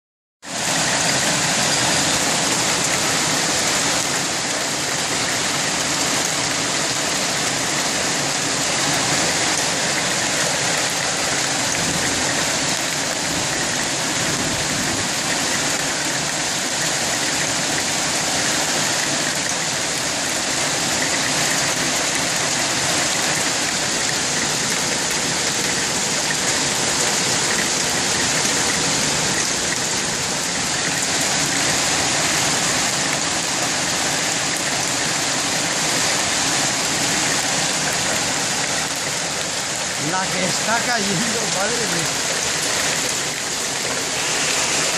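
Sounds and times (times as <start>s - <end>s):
hail and heavy rain falling: 0.5s - 44.9s.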